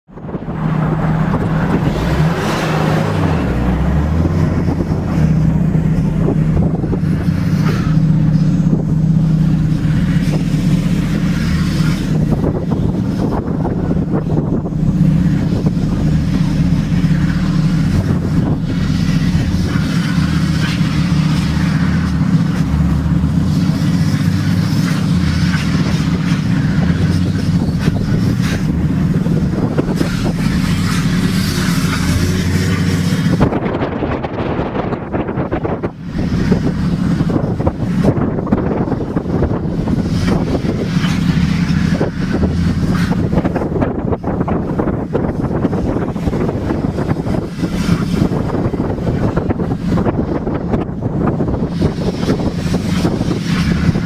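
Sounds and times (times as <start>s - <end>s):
turbo engine revving: 0.0s - 54.0s
car idling loudly: 0.1s - 54.0s.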